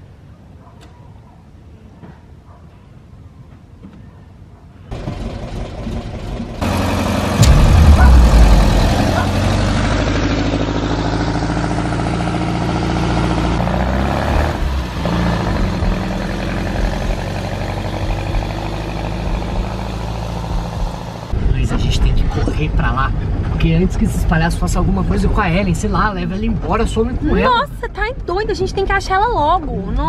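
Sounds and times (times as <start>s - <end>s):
car engine starting and running: 4.9s - 30.0s.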